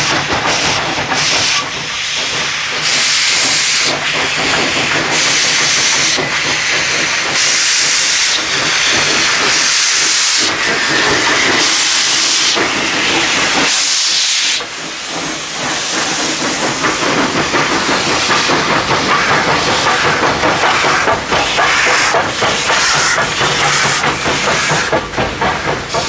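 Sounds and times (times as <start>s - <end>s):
steam hissing blasts: 0.0s - 26.0s
steam locomotive exhaust beats: 0.0s - 26.0s.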